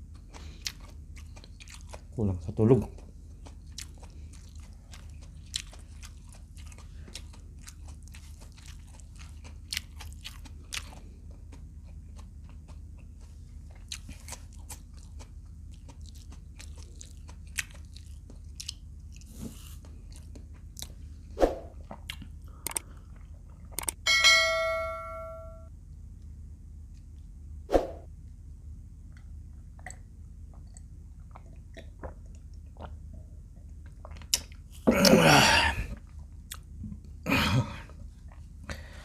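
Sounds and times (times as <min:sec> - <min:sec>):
chewing and crunching: 0:00.0 - 0:24.0, 0:29.1 - 0:35.2, 0:35.8 - 0:37.2, 0:37.8 - 0:39.0
steady low hum: 0:00.0 - 0:39.0.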